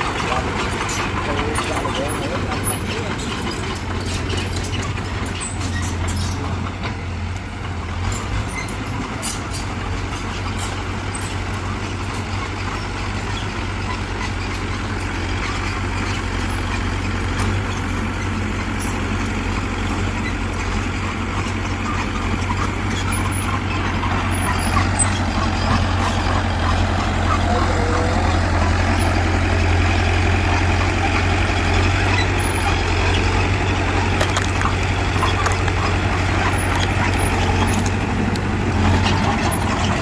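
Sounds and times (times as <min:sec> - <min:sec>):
heavy diesel engine humming: 0:00.0 - 0:40.0.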